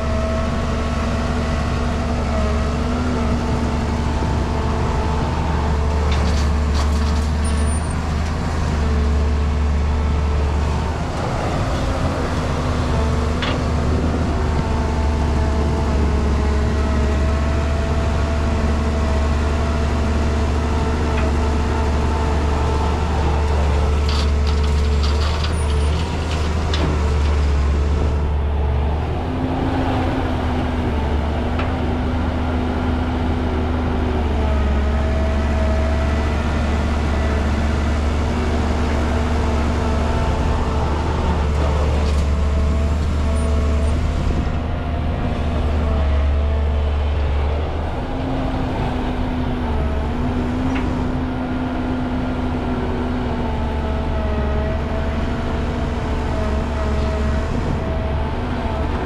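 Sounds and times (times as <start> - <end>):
excavator diesel engine: 0.0 - 59.0
hydraulics whining: 0.0 - 59.0.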